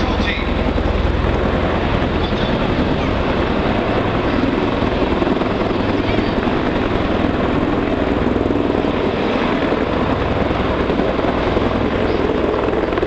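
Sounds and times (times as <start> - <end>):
helicopter rotor: 0.0 - 13.0
tiltrotor aircraft drone: 0.0 - 13.0.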